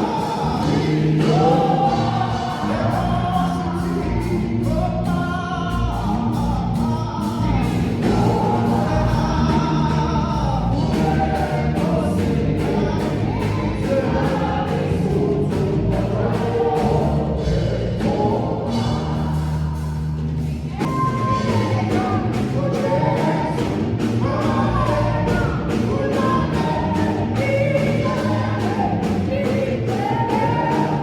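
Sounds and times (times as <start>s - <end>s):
band with beat and bass: 0.0s - 31.0s
choir singing gospel: 0.0s - 31.0s.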